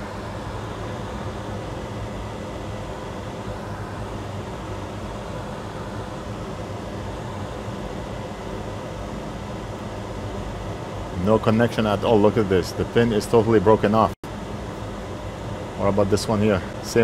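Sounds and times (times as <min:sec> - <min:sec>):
fan whirring hum: 0:00.0 - 0:17.0.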